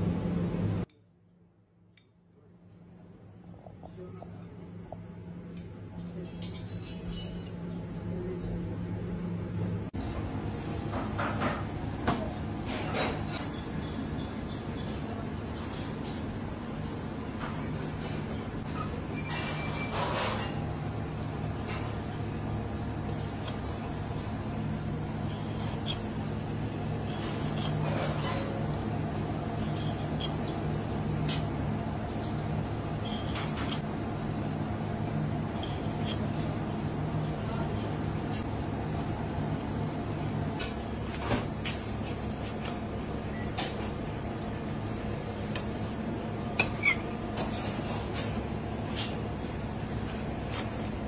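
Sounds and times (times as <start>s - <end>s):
kitchen ventilation hum: 0.0s - 51.0s.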